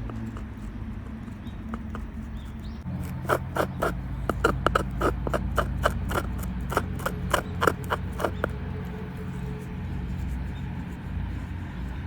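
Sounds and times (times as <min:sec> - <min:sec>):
quick scraping strokes: 0:00.0 - 0:11.9
steady low hum: 0:00.0 - 0:12.0.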